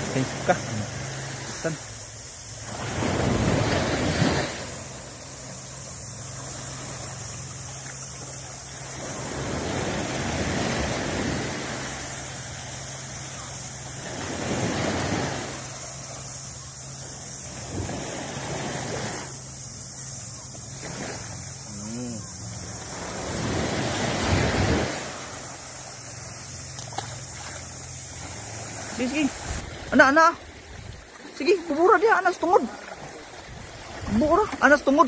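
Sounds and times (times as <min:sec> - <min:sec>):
surf waves washing up beach: 0:00.0 - 0:35.0.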